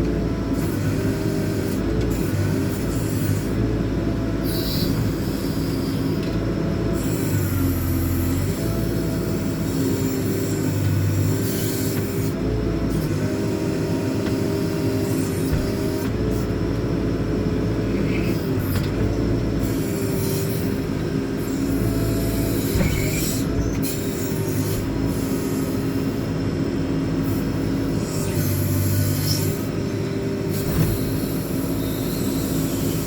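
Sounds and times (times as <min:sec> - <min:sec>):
diesel engine under load: 0:00.0 - 0:33.0
hydraulic whine: 0:00.0 - 0:33.0.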